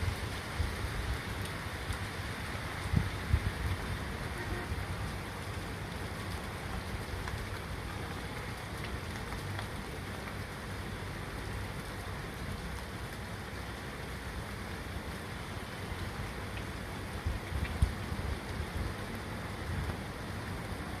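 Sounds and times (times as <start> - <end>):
steady rain falling: 0.0 - 21.0
raindrops ticking: 0.1 - 21.0.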